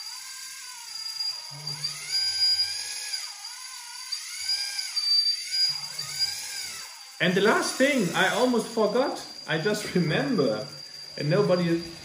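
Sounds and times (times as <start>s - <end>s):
hydraulic pump whining: 0.0s - 12.0s.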